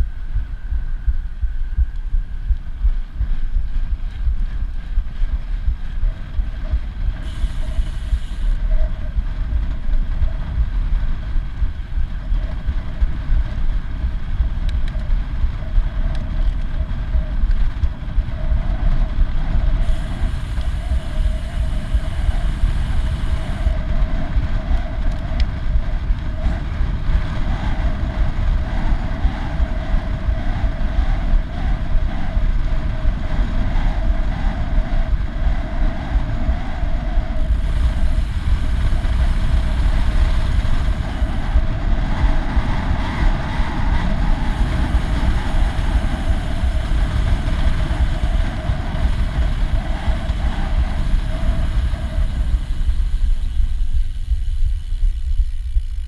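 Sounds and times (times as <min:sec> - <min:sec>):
tyres humming on asphalt: 0:00.0 - 0:56.0
wind rushing over microphone: 0:00.0 - 0:56.0.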